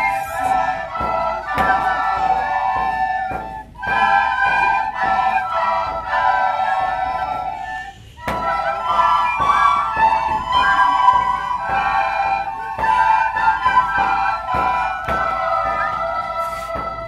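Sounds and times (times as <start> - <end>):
children playing recorders: 0.0 - 17.0.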